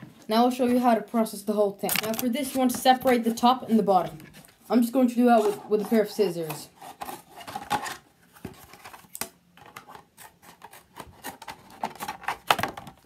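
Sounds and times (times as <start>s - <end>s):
stiff plastic crackling: 1.8s - 4.7s, 5.3s - 13.0s.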